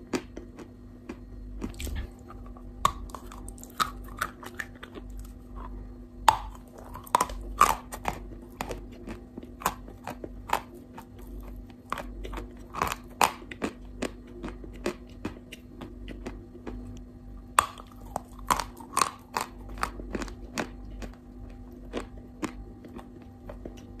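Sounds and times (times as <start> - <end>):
crunching and chewing chalk: 0.0 - 24.0
faint steady hum: 0.0 - 24.0.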